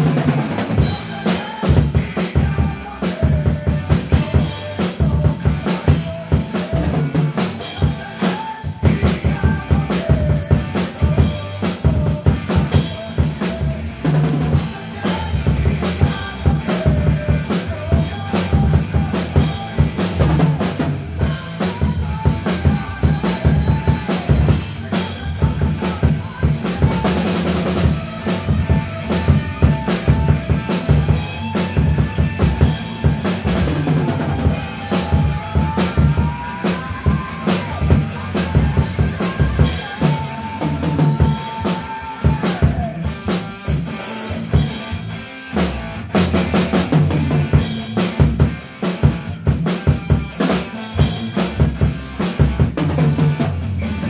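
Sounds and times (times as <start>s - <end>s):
drum kit groove: 0.0s - 54.0s.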